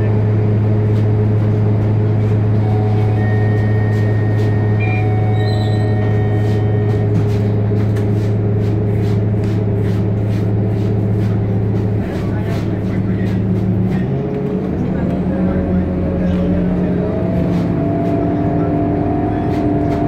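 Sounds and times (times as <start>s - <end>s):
large vehicle engine idling: 0.0s - 20.0s.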